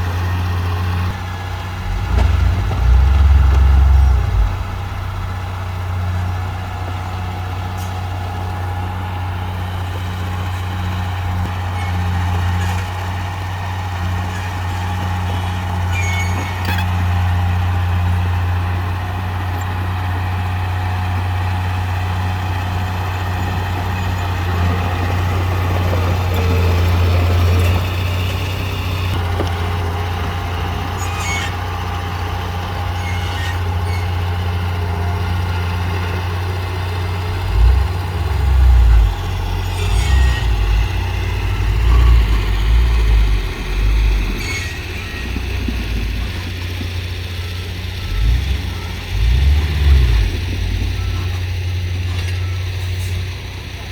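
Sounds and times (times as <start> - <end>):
diesel machinery engine drone: 0.0 - 53.9.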